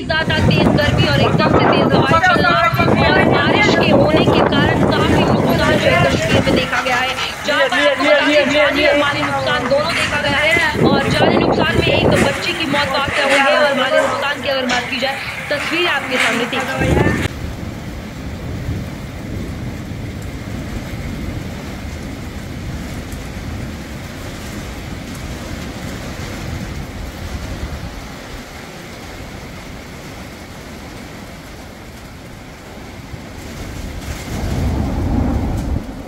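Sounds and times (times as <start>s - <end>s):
rain: 0.0s - 36.0s
storm wind: 0.0s - 36.0s.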